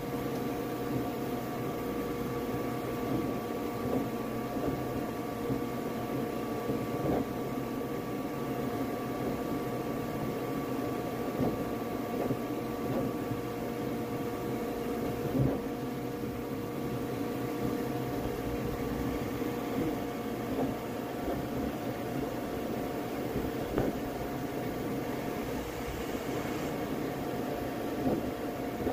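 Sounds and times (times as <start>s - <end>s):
printer fans and motors whirring: 0.0s - 28.9s.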